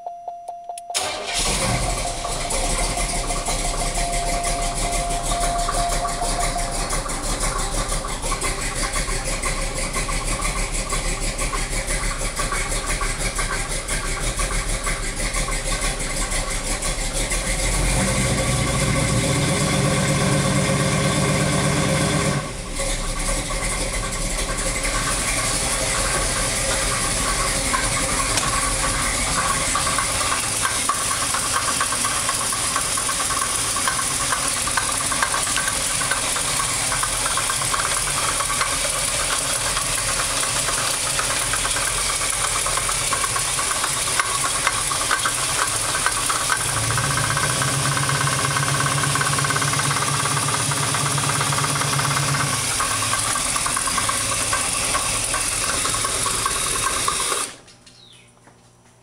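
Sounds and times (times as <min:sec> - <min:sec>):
engine running with rapid knock: 0:01.0 - 0:57.7
deeper engine note: 0:01.4 - 0:31.4, 0:34.0 - 0:55.7.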